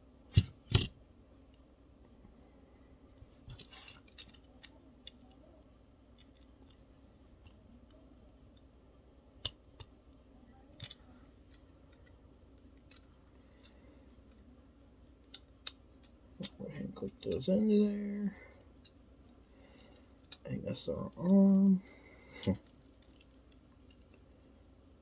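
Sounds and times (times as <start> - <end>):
faint plastic parts clicking: 0.3 - 25.0.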